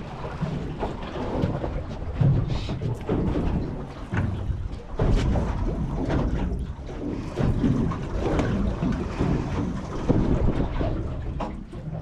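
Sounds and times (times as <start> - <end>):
water slapping against boat: 0.0 - 12.0
wind rumbling on microphone: 0.0 - 12.0.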